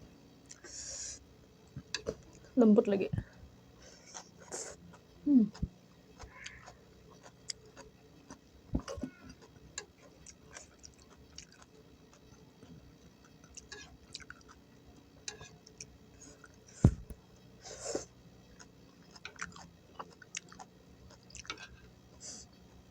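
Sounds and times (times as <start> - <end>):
chewing vegetables: 3.3 - 16.8, 17.4 - 22.9.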